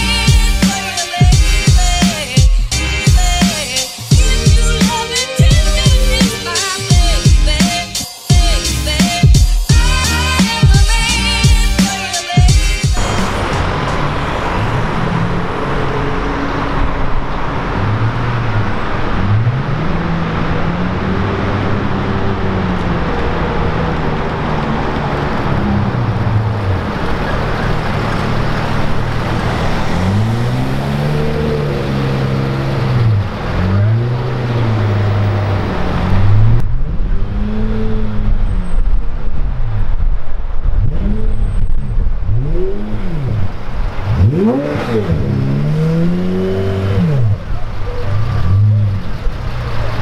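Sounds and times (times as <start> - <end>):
car engine revving: 0.0 - 50.0
city traffic noise: 0.0 - 50.0.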